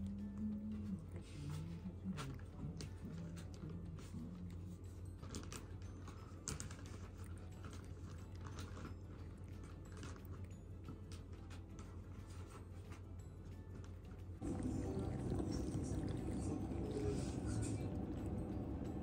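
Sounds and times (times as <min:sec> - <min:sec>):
cat licking fur: 0:00.0 - 0:19.0.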